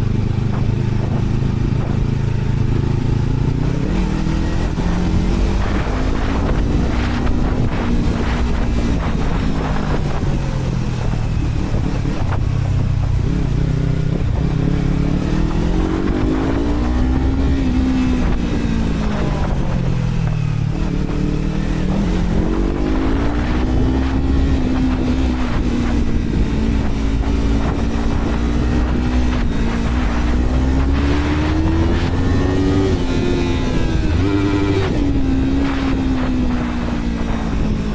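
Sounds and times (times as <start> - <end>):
motorcycle engine revving: 0.0 - 37.9
wind buffeting microphone: 0.0 - 37.9.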